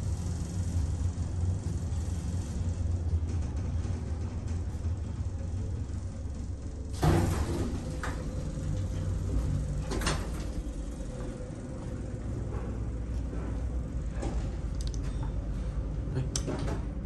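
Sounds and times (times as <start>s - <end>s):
lift doors sliding: 0.0s - 15.6s
steady low hum: 0.0s - 17.0s.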